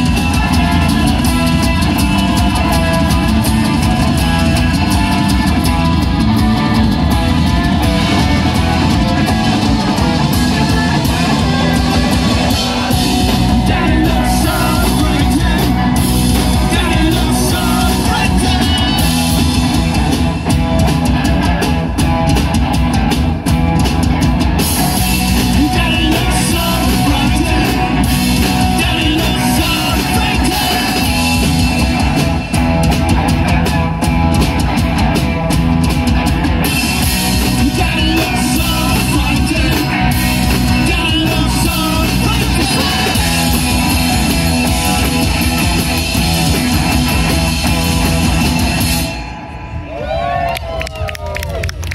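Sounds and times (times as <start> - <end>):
drum kit: 0.0 - 49.5
electric guitars: 0.0 - 51.9.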